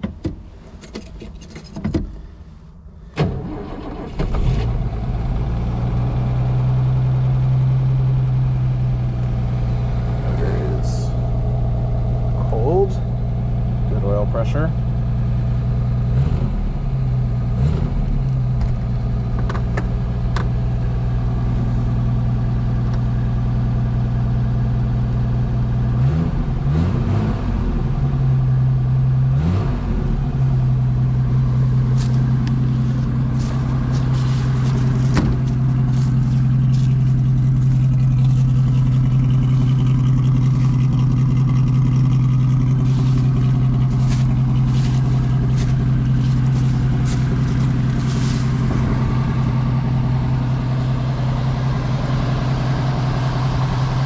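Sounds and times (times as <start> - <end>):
car engine idling: 0.0 - 26.8, 27.4 - 54.0.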